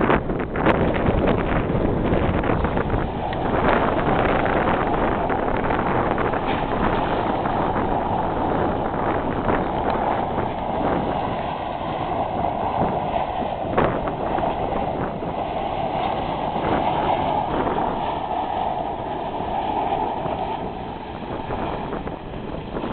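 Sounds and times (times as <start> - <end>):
engine running hard: 0.0 - 22.9
wind noise on microphone: 0.0 - 22.9
tyres spinning in dirt: 0.9 - 22.9.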